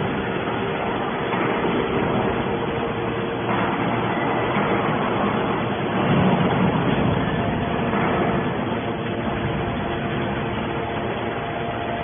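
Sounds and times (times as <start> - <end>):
hydraulic machine drone: 0.0 - 12.0.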